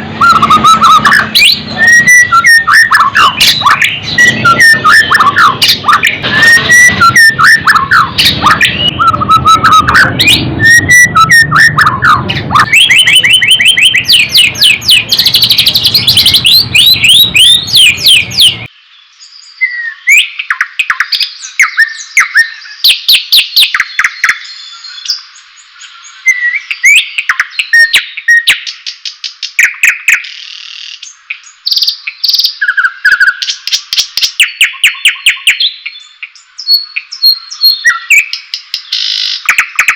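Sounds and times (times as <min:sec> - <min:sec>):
songbird whistling and trilling: 0:00.0 - 0:39.9.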